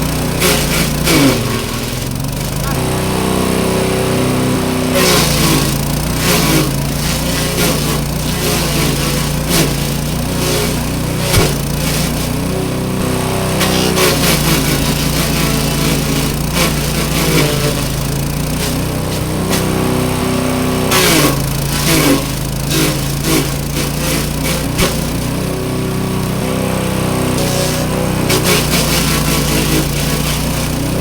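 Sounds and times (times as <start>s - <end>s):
small engine running: 0.0s - 31.0s
fronds crunching in chopper: 5.0s - 26.3s, 27.2s - 31.0s.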